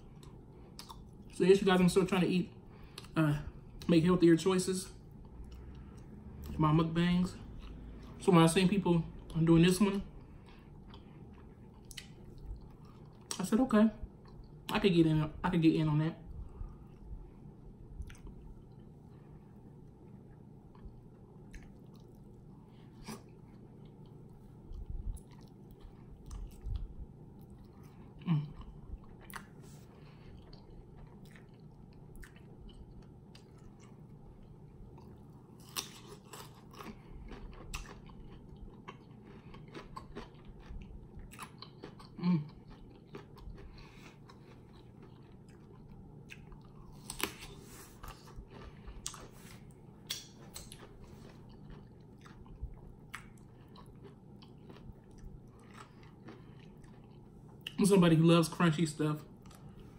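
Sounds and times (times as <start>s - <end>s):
chewing and crunching: 0.0s - 4.0s, 4.9s - 14.9s, 15.8s - 59.9s.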